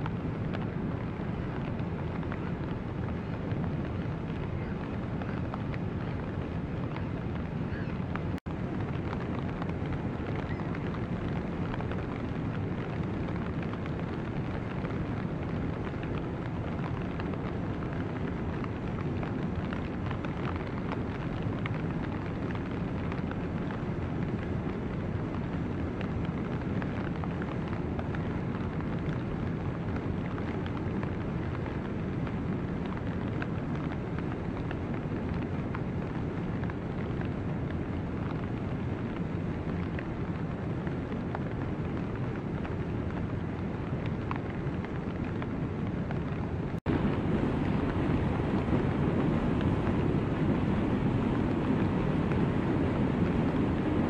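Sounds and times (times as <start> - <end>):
ice floes rushing on river current: 0.1 - 54.0.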